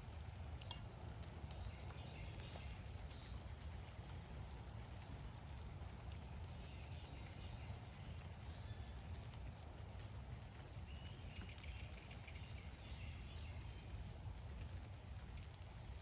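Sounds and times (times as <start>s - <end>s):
light ticks: 0.0s - 16.0s
small birds chirping: 0.0s - 16.0s.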